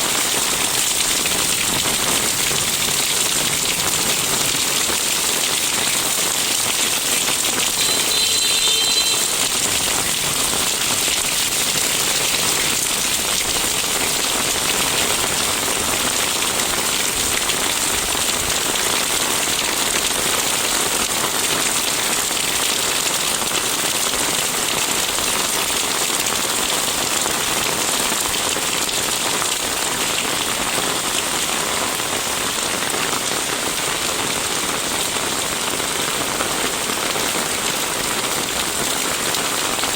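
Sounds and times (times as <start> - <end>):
steady rain on a street: 0.0 - 39.9.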